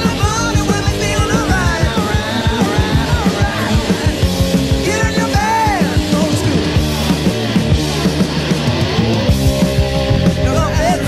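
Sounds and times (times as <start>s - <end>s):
bass guitar: 0.0s - 11.0s
driving drum beat: 0.0s - 11.0s
electric guitar bending notes: 0.0s - 11.0s.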